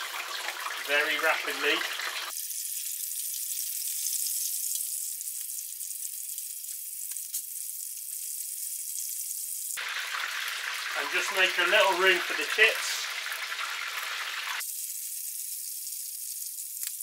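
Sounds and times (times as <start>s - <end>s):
deep-frying sizzling hiss: 0.0s - 17.0s.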